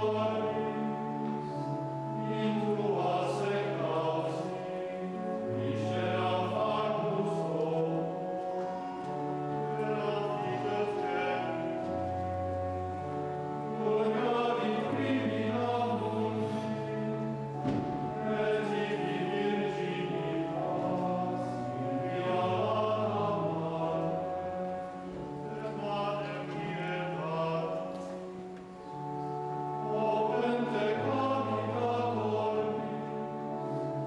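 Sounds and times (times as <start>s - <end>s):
men's choir chanting: 0.0s - 8.2s, 9.1s - 12.0s, 13.7s - 24.3s, 25.1s - 28.1s, 29.8s - 33.8s.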